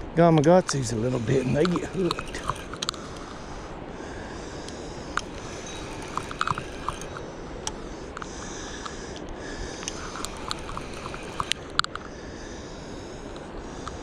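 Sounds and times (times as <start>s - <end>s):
fishing reel clicking: 0.3s - 14.0s.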